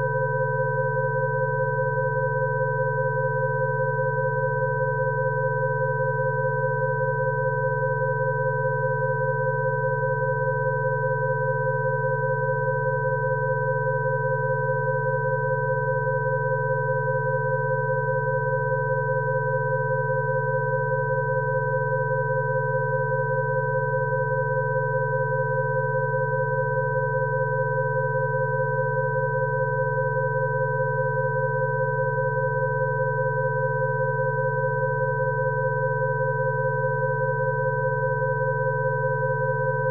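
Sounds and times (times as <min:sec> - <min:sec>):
electronic sine tones: 0:03.8 - 0:39.9.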